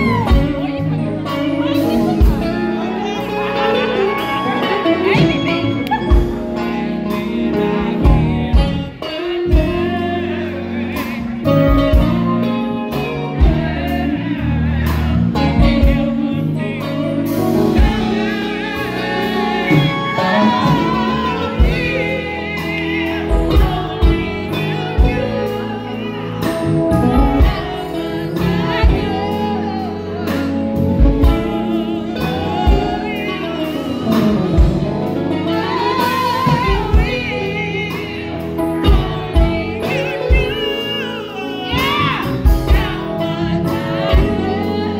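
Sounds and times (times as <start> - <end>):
drum kit beat: 0.0 - 44.9
electric guitars: 0.0 - 44.9
keyboard: 0.0 - 44.9
wavering lead melody: 0.0 - 44.9.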